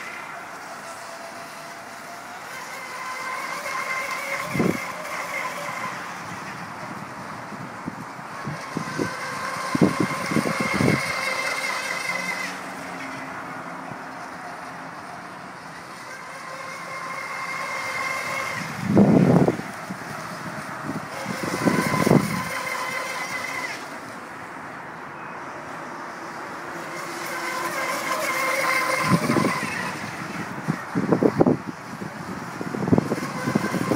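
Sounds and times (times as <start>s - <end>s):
high-pitched electric motor whine: 0.0s - 33.9s.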